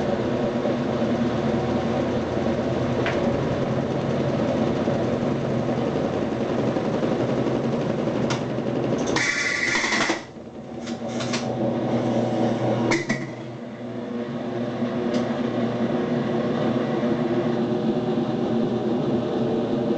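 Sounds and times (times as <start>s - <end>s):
washing machine motor humming: 0.0s - 19.9s.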